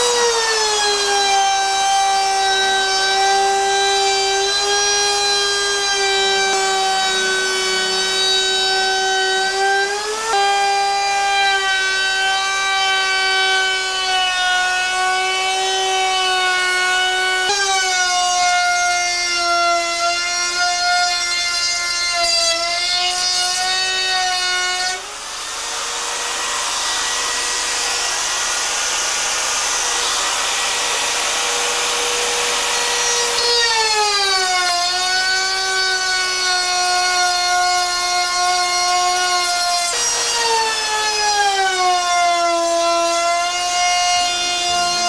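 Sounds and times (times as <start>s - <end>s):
router cutting wood: 0.0s - 45.0s
wood router whining: 0.0s - 45.0s.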